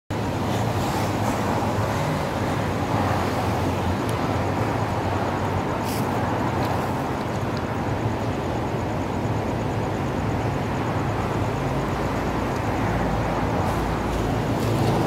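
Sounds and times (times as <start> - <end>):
road traffic rumble: 0.1 - 15.0.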